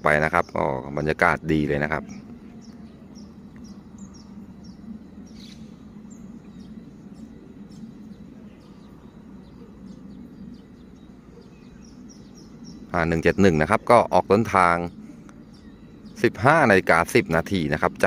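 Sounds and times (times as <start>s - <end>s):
birds chirping: 0.0s - 18.0s
low background rumble: 0.0s - 18.0s.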